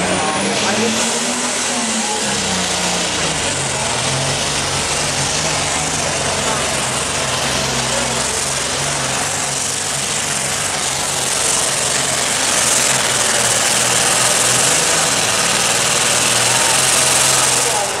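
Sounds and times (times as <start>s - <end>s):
heavy diesel engine running hard: 0.0s - 18.0s.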